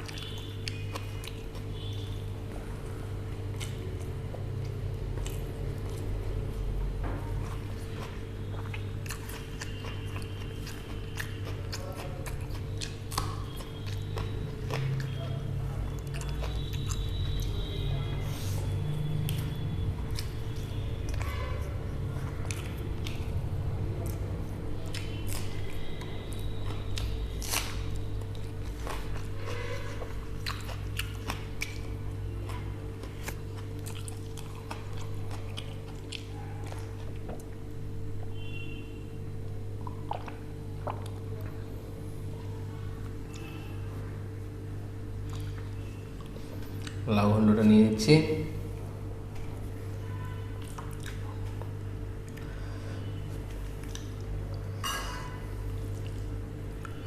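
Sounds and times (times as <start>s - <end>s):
food crunching: 0.0s - 6.6s, 7.4s - 38.4s, 39.4s - 43.8s, 44.4s - 47.1s, 50.5s - 52.6s, 53.2s - 57.0s
person chewing food: 0.0s - 38.5s, 39.3s - 47.1s, 49.1s - 57.0s
steady low hum: 0.0s - 57.0s.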